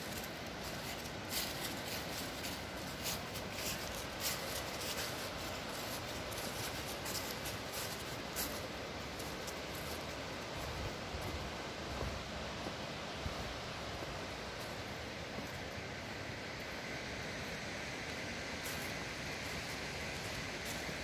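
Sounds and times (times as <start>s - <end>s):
footsteps through dry leaves: 0.0s - 21.0s
steady hiss: 0.0s - 21.0s.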